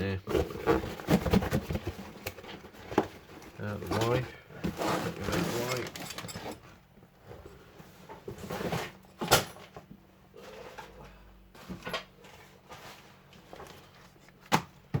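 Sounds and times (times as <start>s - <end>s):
rustling boxes: 0.1s - 15.0s.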